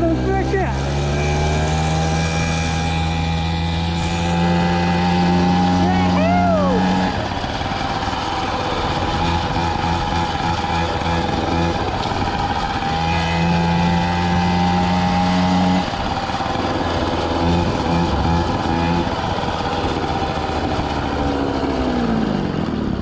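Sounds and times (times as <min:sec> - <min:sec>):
moped engine running: 0:00.0 - 0:23.0.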